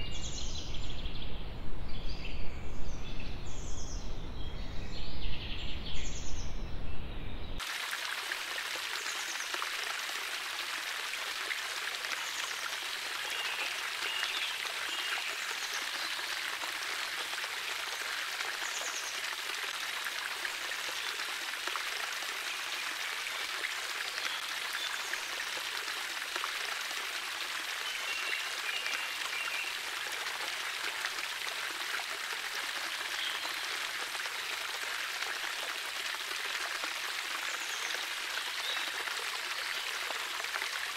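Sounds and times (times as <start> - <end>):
running water: 7.6 - 40.9.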